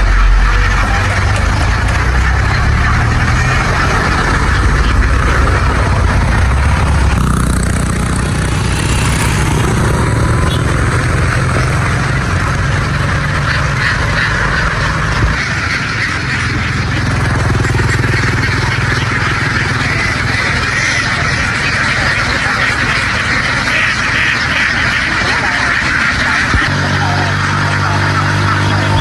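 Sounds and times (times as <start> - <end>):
engine humming: 0.0 - 29.0
flock of ducks quacking: 0.0 - 29.0.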